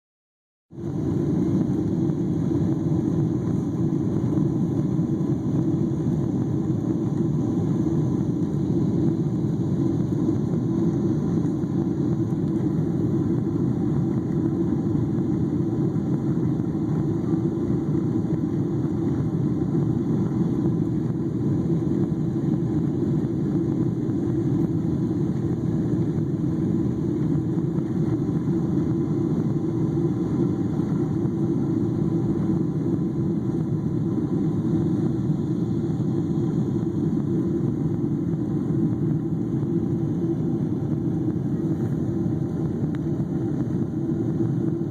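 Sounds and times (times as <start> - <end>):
jet engines rumbling inside cabin: 0.7 - 44.9.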